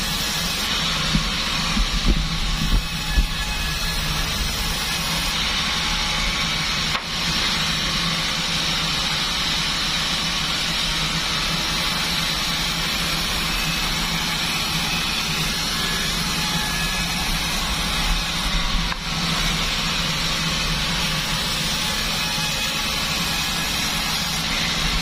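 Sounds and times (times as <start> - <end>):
bandsaw machine humming with hiss: 0.0 - 25.0.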